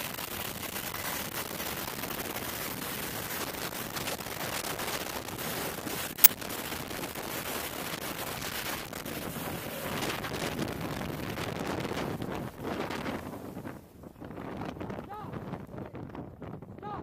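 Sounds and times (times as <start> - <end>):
helicopter rotor downwash wind: 0.0 - 15.9.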